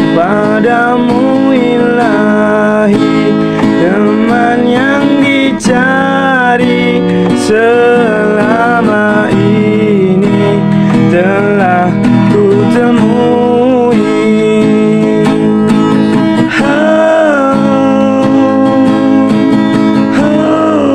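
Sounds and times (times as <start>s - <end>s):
acoustic guitar strumming: 0.0s - 20.9s
person singing: 0.0s - 20.9s.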